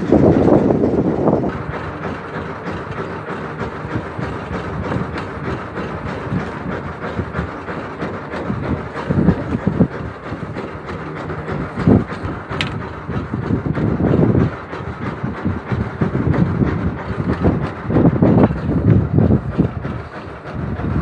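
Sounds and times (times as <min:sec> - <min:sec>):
boat engine running: 0:00.0 - 0:21.0
wind: 0:00.0 - 0:21.0.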